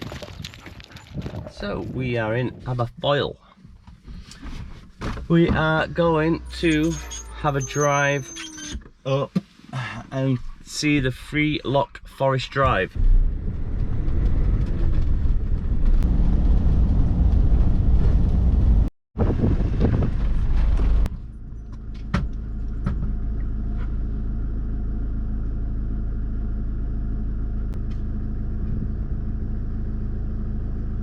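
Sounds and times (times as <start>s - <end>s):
road and wind noise: 0.0s - 9.5s, 10.4s - 31.0s
engine hum: 3.6s - 31.0s.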